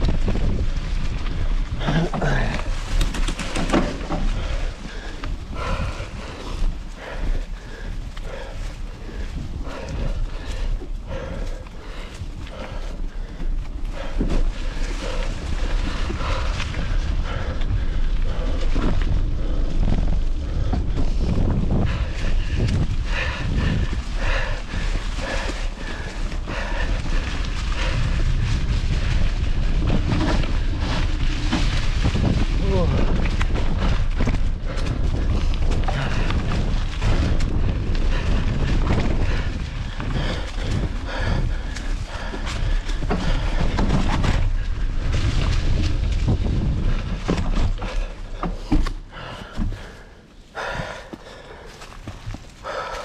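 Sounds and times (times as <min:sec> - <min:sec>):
bike clicks and rattles: 0:00.0 - 0:53.0
wind buffeting microphone: 0:00.0 - 0:53.0.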